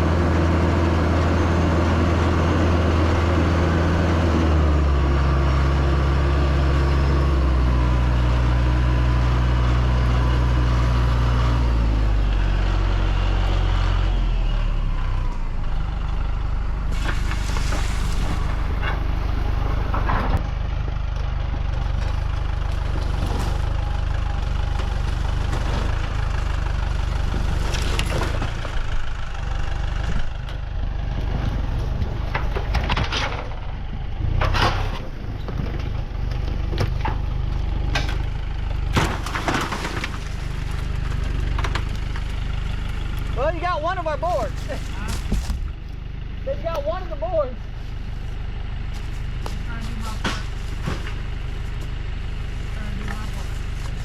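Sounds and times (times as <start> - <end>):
tractor engine rumbling: 0.0 - 54.0.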